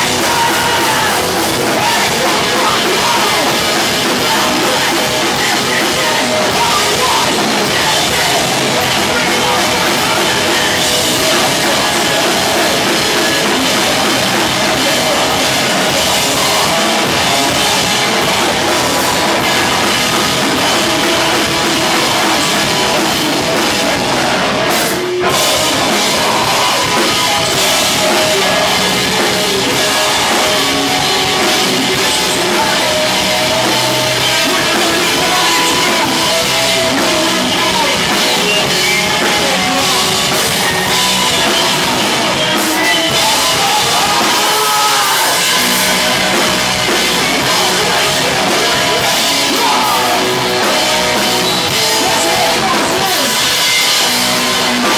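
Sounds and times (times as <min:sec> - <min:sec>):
bass guitar: 0:00.0 - 0:54.9
drum kit: 0:00.0 - 0:54.9
electric guitars: 0:00.0 - 0:54.9.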